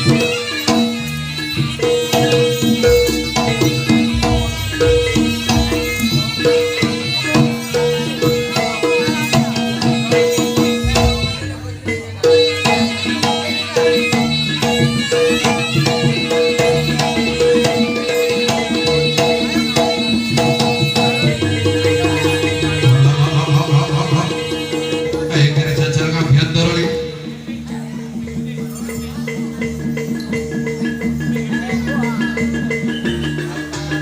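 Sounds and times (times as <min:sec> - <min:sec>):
hand drums beating: 0:00.0 - 0:34.0
pitched metal notes: 0:00.0 - 0:34.0.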